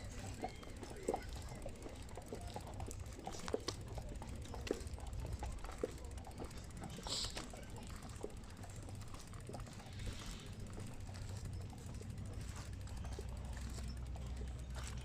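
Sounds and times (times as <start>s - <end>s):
bicycle clicks and rattles: 0.0s - 15.0s
bicycle rolling rumble: 0.0s - 15.0s.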